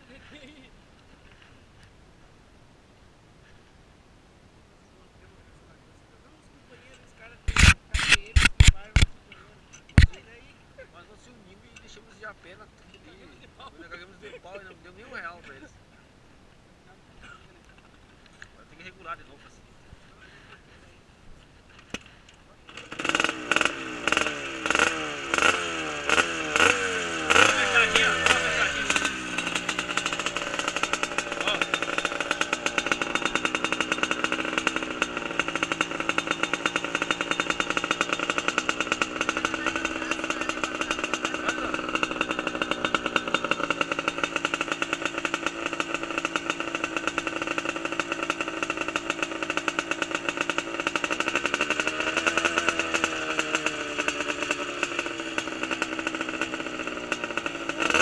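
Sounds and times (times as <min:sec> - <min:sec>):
motorcycle engine running: 0:05.1 - 0:15.8, 0:21.4 - 0:58.0.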